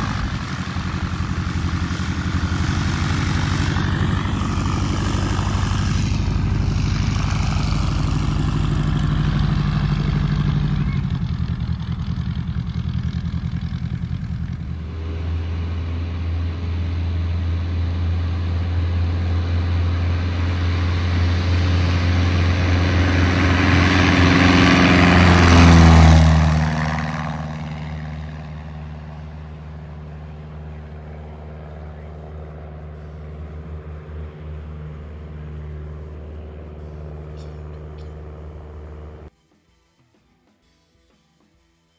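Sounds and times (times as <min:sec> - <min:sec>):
light airplane engine and propeller: 0:00.0 - 0:39.3.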